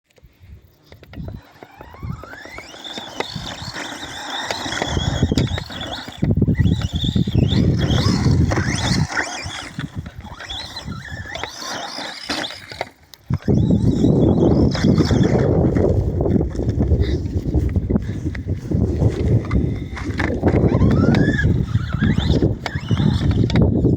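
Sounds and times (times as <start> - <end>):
electric motor whining: 0.6 - 23.9
tyres rumbling on rough ground: 1.0 - 23.9.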